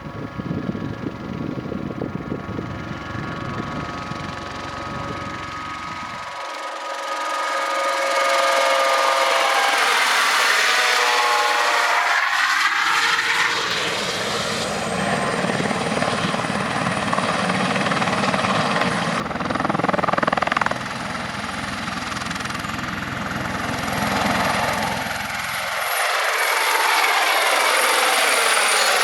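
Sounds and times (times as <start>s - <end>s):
helicopter rotor beating: 0.0s - 29.0s
turbine whine: 0.0s - 29.0s.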